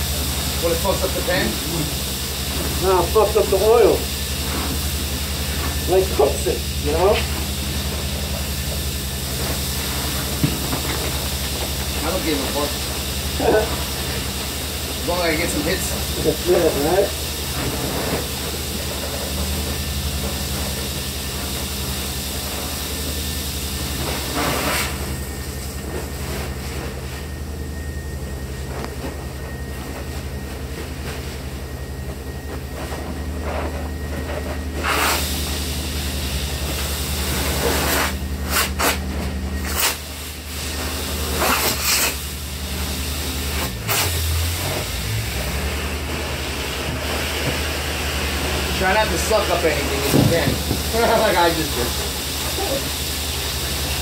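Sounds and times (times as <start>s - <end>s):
heavy machinery droning: 0.0s - 54.0s.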